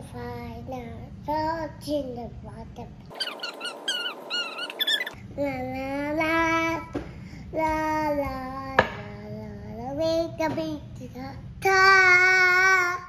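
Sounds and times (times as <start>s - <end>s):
child singing wordlessly: 0.0s - 3.0s, 5.3s - 13.0s.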